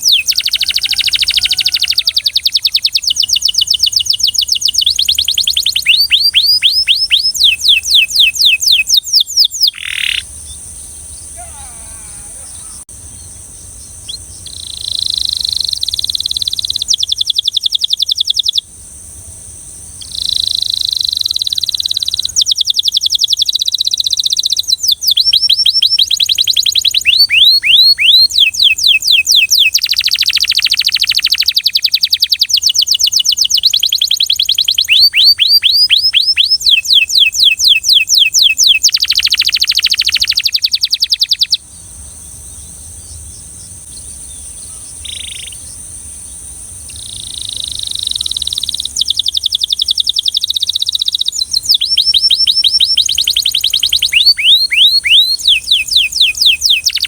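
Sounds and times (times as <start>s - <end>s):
canary singing trills: 0.0s - 18.7s, 19.9s - 57.0s.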